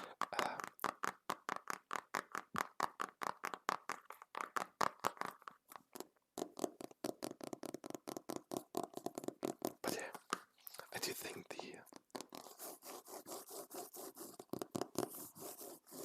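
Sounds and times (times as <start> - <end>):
fingertips tapping on book cover: 0.0 - 16.0.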